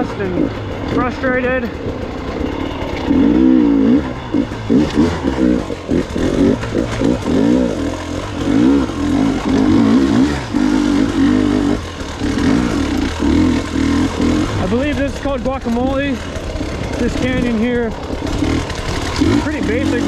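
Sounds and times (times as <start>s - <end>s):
motorcycle engine riding: 0.0s - 20.0s.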